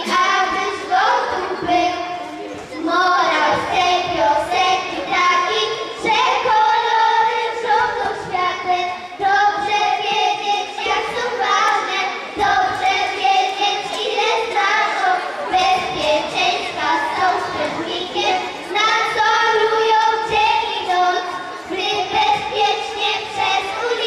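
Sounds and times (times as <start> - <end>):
children singing into microphones: 0.0 - 24.0.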